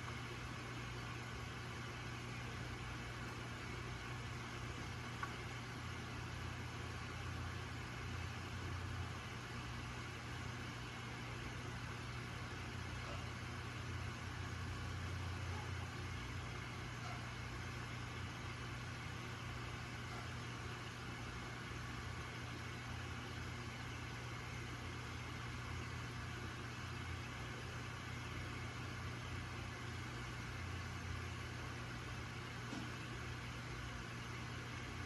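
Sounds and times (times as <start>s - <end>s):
aquarium pump humming: 0.0s - 35.0s.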